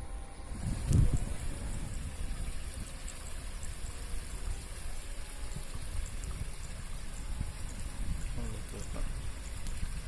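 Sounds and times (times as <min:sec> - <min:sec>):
even hiss: 0:00.0 - 0:10.0
wind rumbling on microphone: 0:00.0 - 0:10.0.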